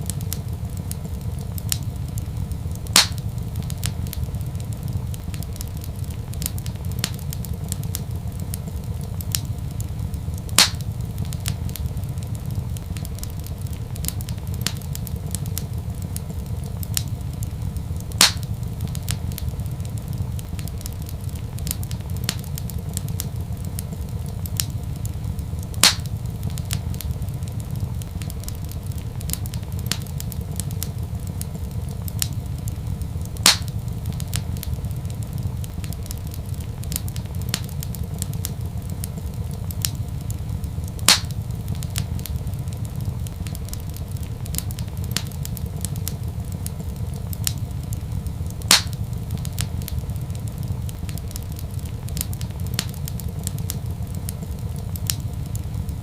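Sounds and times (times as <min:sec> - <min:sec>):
sharp fire pops: 0:00.0 - 0:56.0
steady low rumble: 0:00.0 - 0:56.0
wood fire crackling: 0:00.0 - 0:56.0.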